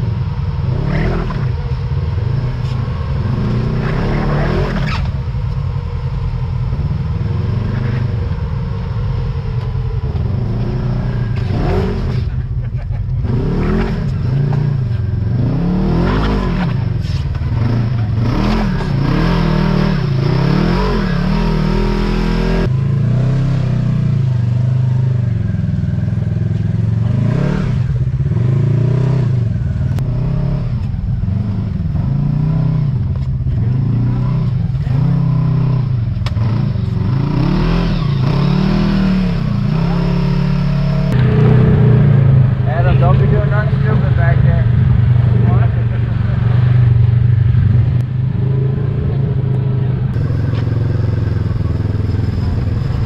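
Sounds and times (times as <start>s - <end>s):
off-road vehicle engine revving: 0.0s - 53.0s.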